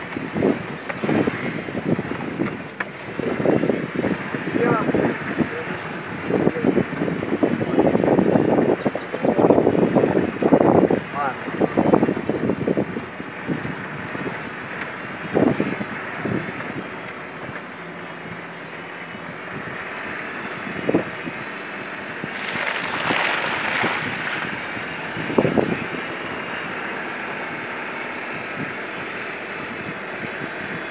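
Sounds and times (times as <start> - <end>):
engine and road noise: 0.0 - 30.9.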